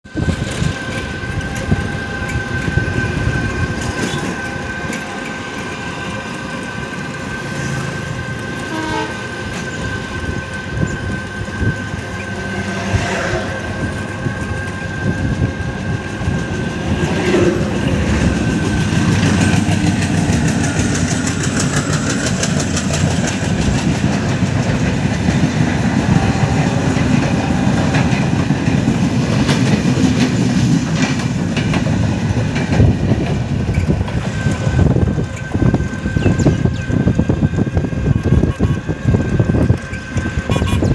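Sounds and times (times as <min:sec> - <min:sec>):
train rumbling on track: 0:00.0 - 0:40.9
wheels clicking over rails: 0:00.1 - 0:40.9.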